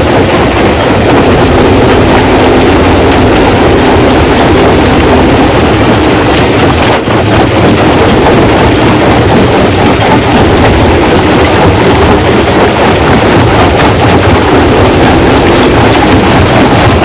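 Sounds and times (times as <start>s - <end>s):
rock crushing machine clattering: 0.0s - 17.0s.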